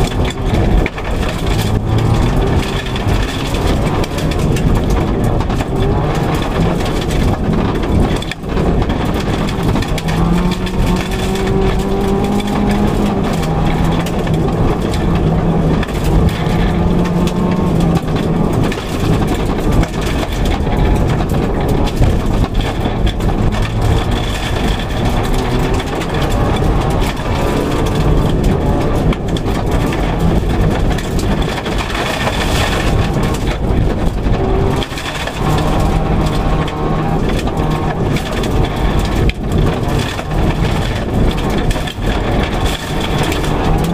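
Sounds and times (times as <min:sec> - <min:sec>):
gravel and road rumble: 0:00.0 - 0:43.9
rally car engine revving: 0:00.0 - 0:43.9.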